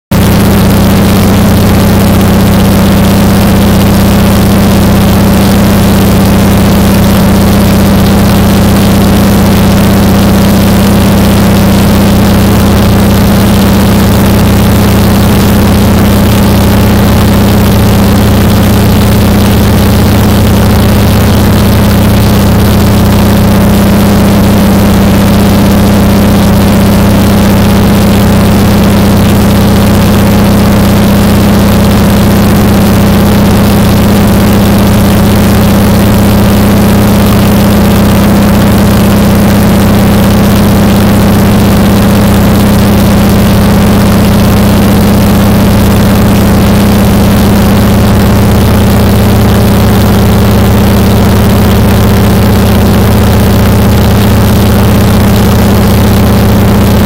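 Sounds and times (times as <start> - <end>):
seaplane engine and propeller droning: 0.1 - 57.0.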